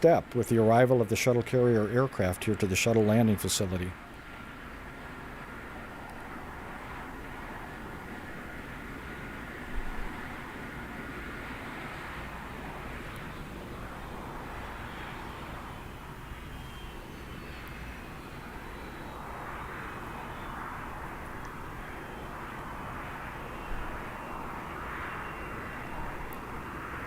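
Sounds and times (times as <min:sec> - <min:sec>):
jet engine rushing hum: 0:00.0 - 0:27.0.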